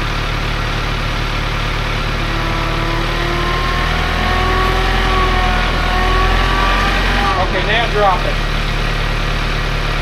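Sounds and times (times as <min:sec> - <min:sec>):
machine engine idling: 0:00.0 - 0:10.0.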